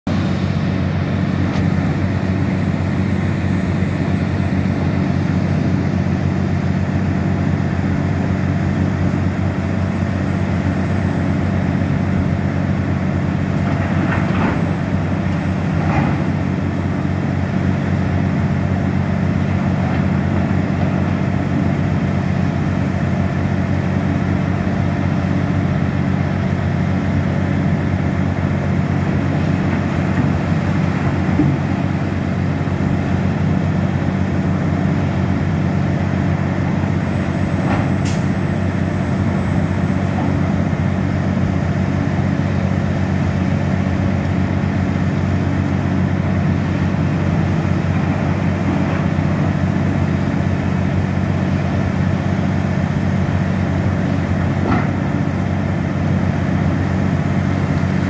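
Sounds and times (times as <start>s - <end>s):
heavy diesel engines droning: 0.0s - 58.0s.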